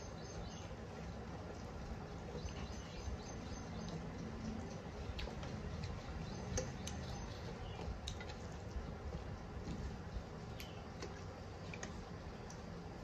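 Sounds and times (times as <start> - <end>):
wet chewing and lip-smacking: 1.4 - 12.8.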